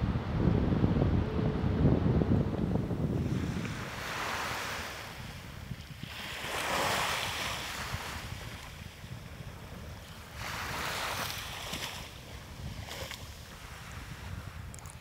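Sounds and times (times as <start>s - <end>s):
wind rumble on microphone: 0.0s - 15.0s
small waves breaking on beach: 2.9s - 15.0s.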